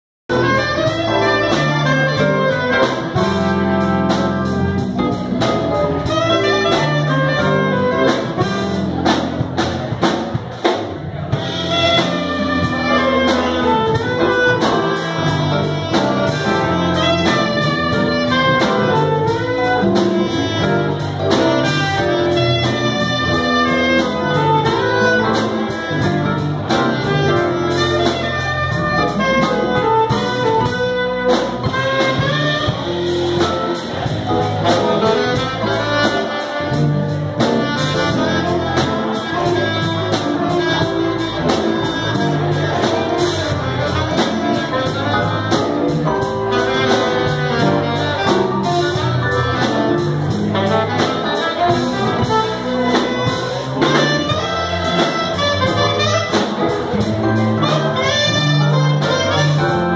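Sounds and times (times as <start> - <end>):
bass line: 0.3 - 59.9
drum kit with cymbals: 0.3 - 59.9
electric keyboard: 0.3 - 59.9
saxophone: 0.3 - 59.9.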